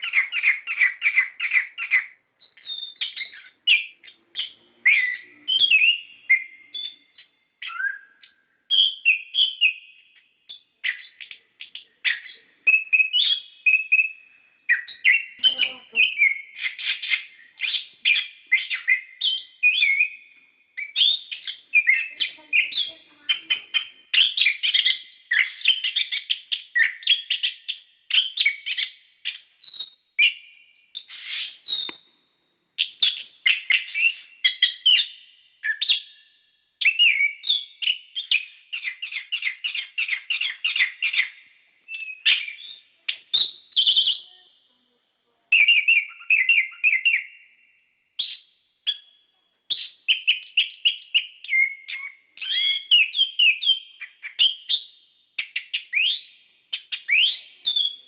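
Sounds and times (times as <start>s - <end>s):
thrush singing chattering whistles: 0.0s - 32.1s, 32.8s - 44.4s, 45.5s - 49.1s, 49.7s - 58.0s.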